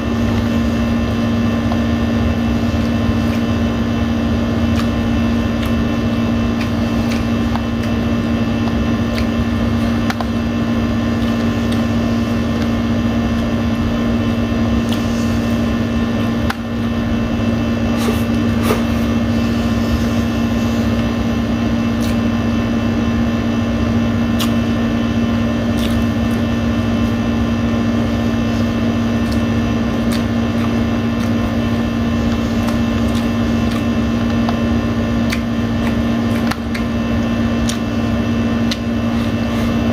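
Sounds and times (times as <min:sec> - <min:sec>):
chewing and eating sounds: 0:00.0 - 0:16.8, 0:21.8 - 0:22.5, 0:24.2 - 0:24.8, 0:25.5 - 0:39.9
air conditioner humming: 0:00.0 - 0:39.9.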